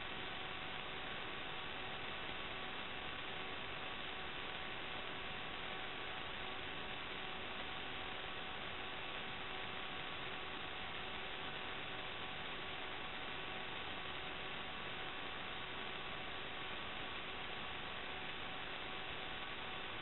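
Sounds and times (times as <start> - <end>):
faint constant hum: 0.0 - 20.0.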